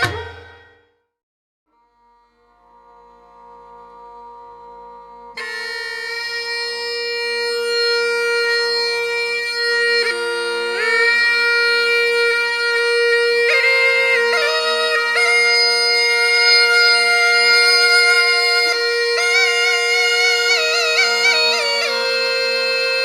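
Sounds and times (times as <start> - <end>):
reedy pipe melody: 1.7 - 23.0.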